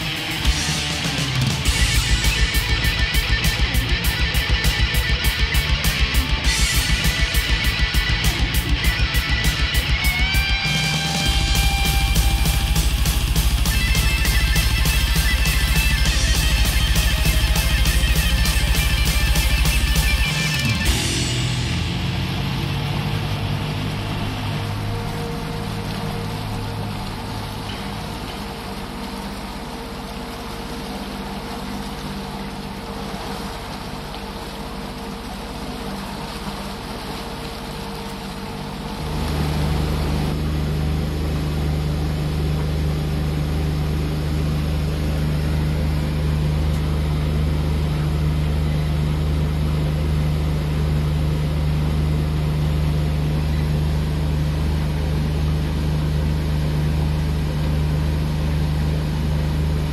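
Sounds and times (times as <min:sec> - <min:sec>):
outboard motor running: 0:00.0 - 0:59.9
water rushing past hull: 0:00.0 - 0:59.9.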